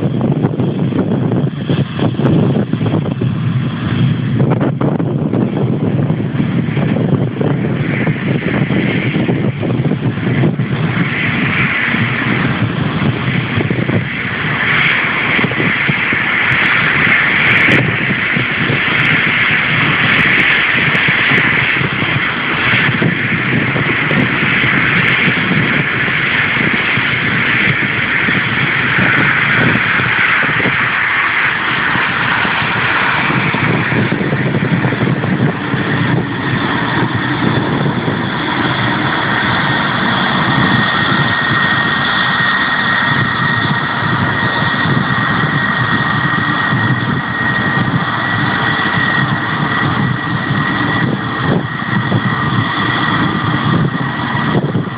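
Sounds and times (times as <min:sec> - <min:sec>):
high jet engine whine: 0:00.0 - 0:54.9
jet engines roaring: 0:00.0 - 0:54.9.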